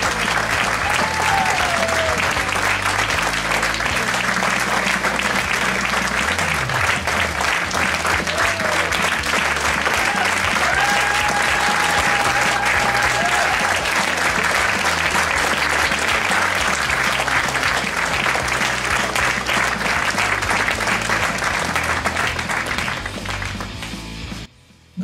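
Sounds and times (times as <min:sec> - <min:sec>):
audience applauding: 0:00.0 - 0:24.5.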